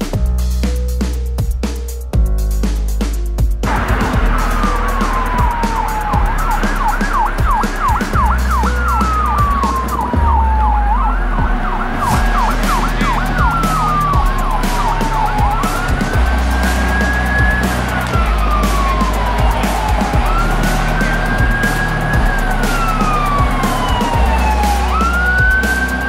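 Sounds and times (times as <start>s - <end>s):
low rumble: 3.6s - 25.6s
electronic vehicle siren: 3.7s - 26.0s.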